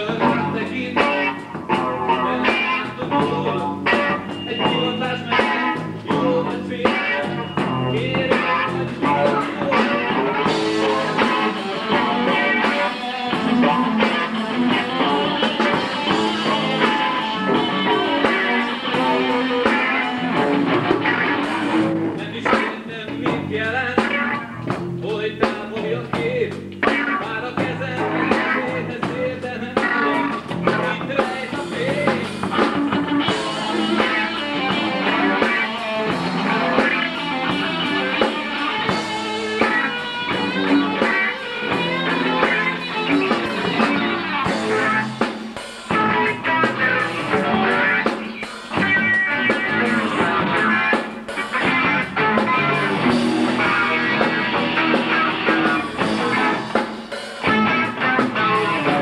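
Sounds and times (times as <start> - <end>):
bass guitar: 0.0 - 59.0
drums: 0.0 - 59.0
electric lead guitar: 0.0 - 59.0.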